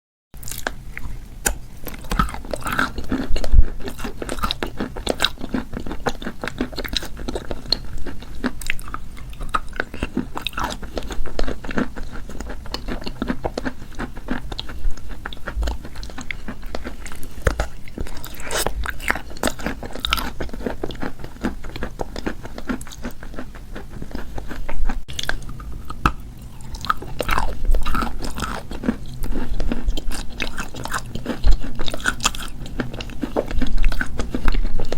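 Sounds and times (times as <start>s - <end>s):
chalk crunching while chewed: 0.4s - 34.9s.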